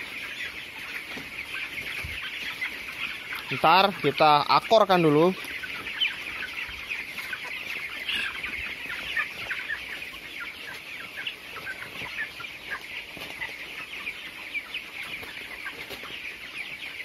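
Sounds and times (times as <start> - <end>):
chickens peeping and chirping: 0.0 - 17.0.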